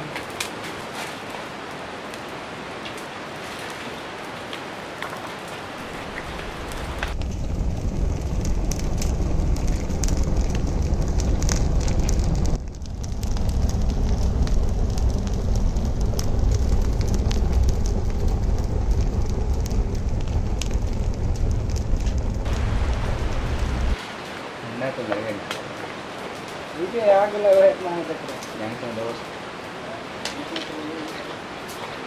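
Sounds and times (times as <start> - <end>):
fire crackling and popping: 0.0 - 32.0
low roar of flames: 0.0 - 32.0.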